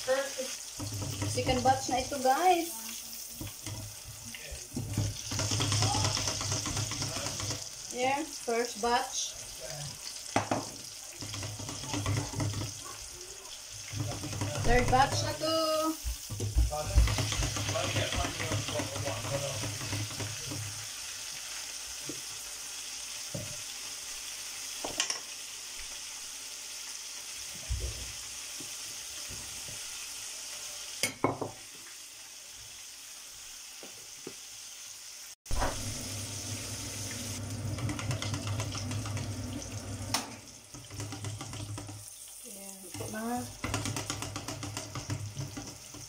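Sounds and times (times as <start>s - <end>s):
oil sizzling while deep-frying: 0.0s - 46.0s.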